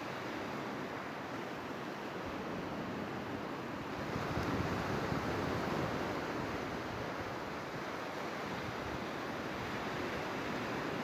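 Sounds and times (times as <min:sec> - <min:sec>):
surf washing up a beach: 0:00.0 - 0:11.0.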